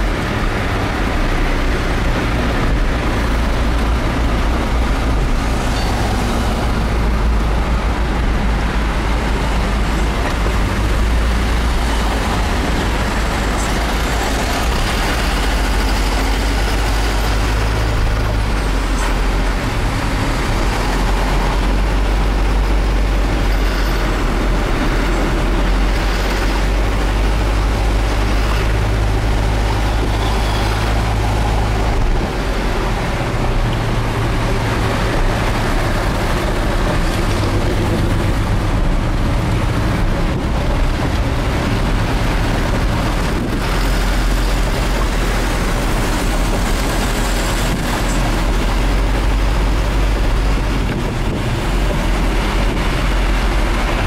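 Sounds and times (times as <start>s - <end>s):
truck engine running: 0.0s - 54.0s
tyre and road noise: 0.0s - 54.0s.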